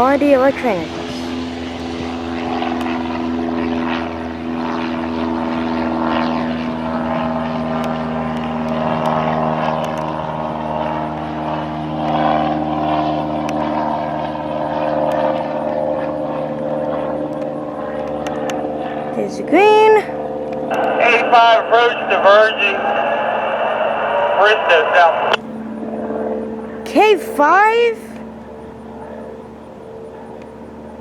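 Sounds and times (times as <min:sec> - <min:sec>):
diesel locomotive engines droning: 0:00.0 - 0:31.0.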